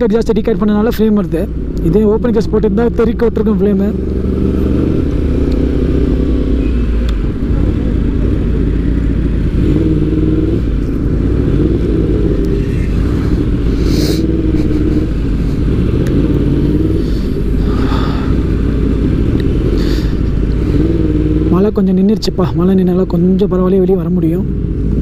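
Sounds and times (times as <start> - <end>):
heavy low rumble: 0.0 - 25.0
motorcycle engine running: 0.8 - 21.9.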